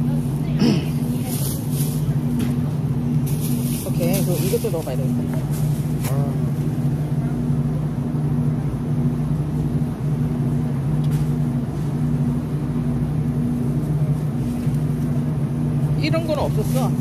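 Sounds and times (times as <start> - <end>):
cooling unit humming: 0.0 - 17.0.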